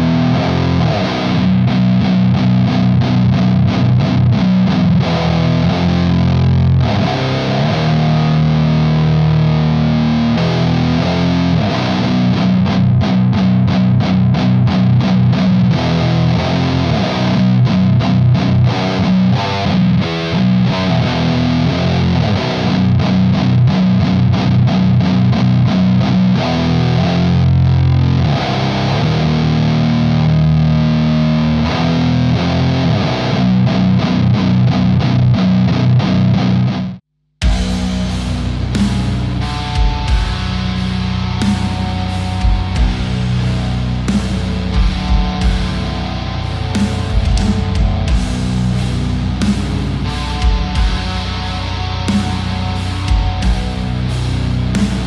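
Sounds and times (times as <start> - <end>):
distorted electric guitar riffs: 0.0 - 55.0.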